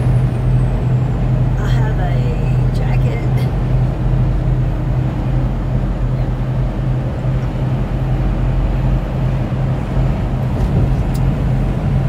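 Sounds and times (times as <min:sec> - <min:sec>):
engine and road drone: 0:00.0 - 0:12.0
pulsing low hum: 0:00.0 - 0:12.0.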